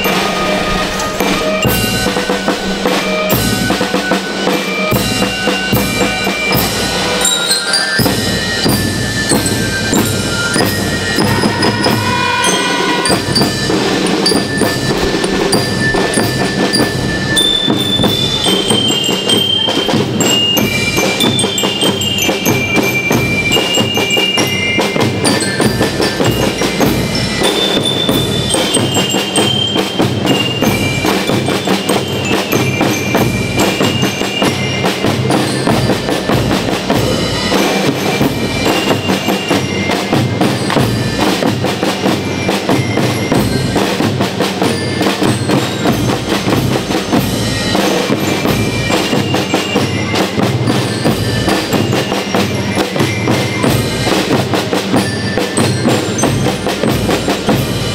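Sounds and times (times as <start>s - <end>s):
bell lyre melody: 0.0s - 57.9s
marching drums: 0.0s - 57.9s.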